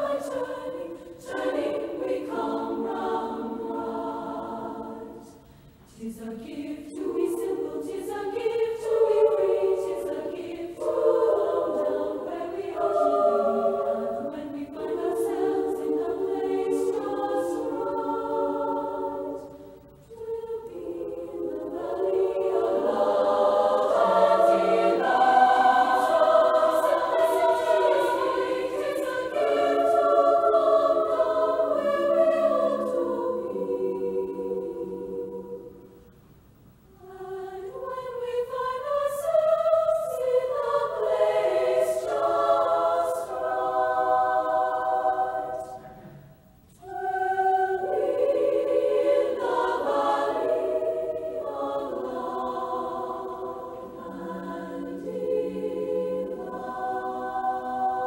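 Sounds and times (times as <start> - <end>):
choir breath: 0.0 - 36.2, 36.9 - 58.0
choir singing sacred piece: 0.0 - 36.2, 36.9 - 58.0.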